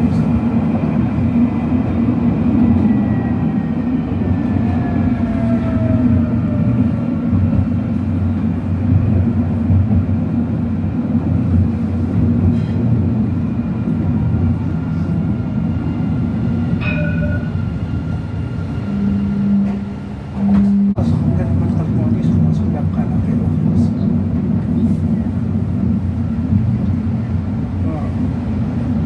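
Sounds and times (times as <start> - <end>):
tram rumbling: 0.0 - 29.0.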